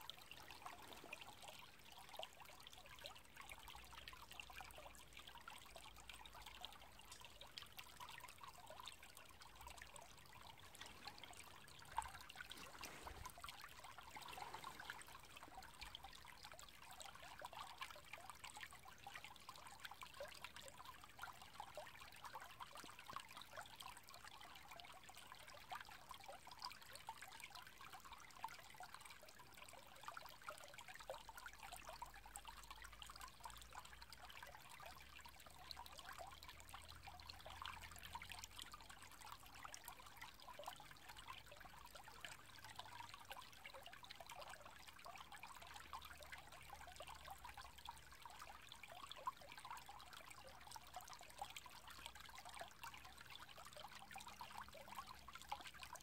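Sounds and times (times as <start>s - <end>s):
water trickling in a ditch: 0.0s - 56.0s.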